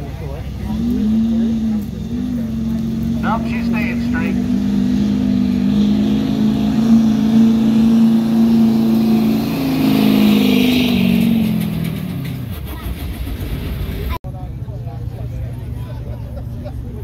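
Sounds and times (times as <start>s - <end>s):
truck engine at high revs: 0.0s - 14.2s.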